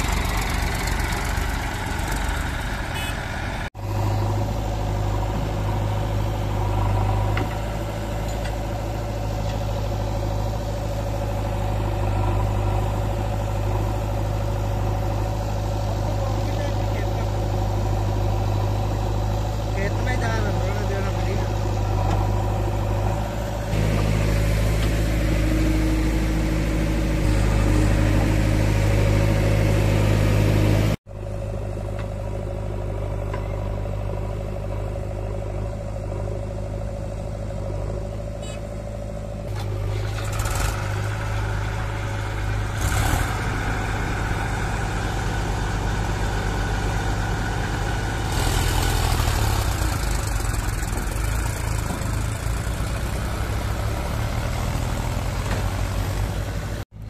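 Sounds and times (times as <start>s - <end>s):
diesel engines idling: 0.0s - 57.0s.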